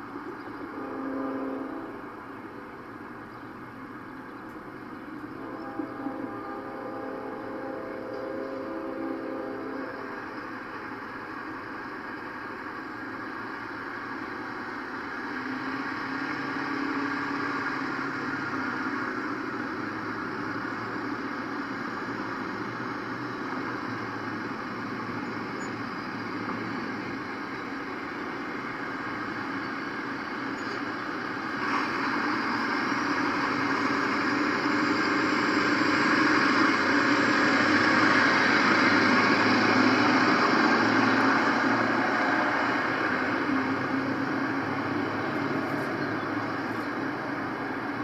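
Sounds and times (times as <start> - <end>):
street traffic: 0.0 - 48.0.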